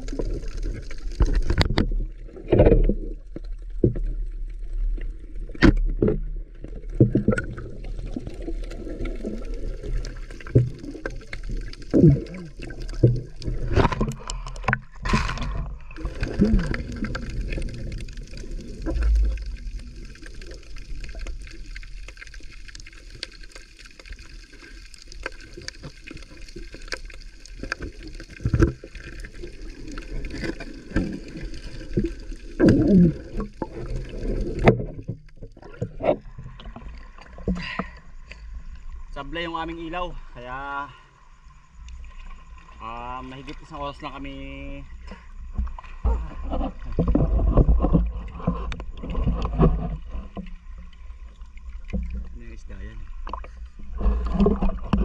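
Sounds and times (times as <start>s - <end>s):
underwater water sloshing: 0.0s - 55.0s.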